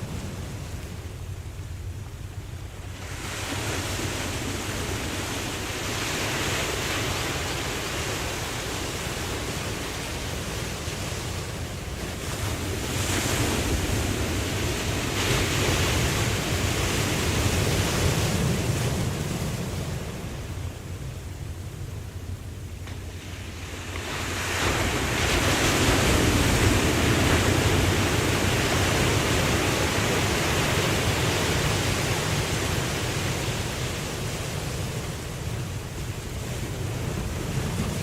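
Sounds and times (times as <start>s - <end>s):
ocean surf washing: 0.0s - 38.0s.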